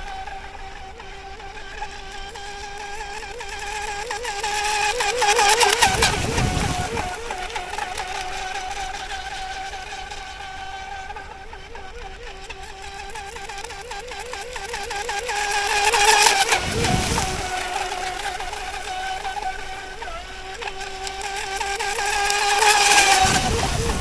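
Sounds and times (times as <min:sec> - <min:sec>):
electric motor whining: 0:00.0 - 0:24.0
rush of water: 0:02.4 - 0:11.0, 0:12.8 - 0:24.0.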